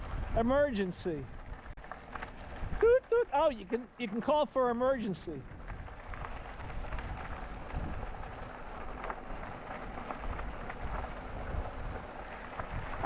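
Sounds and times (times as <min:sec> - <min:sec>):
wind buffeting microphone: 0:00.0 - 0:01.8, 0:02.4 - 0:03.5, 0:05.3 - 0:13.0
tyres rolling on trail: 0:00.0 - 0:13.0.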